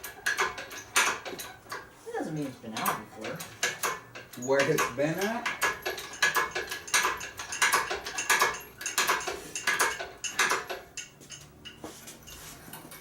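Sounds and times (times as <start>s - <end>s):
rhythmic metallic clinking: 0.0s - 13.0s.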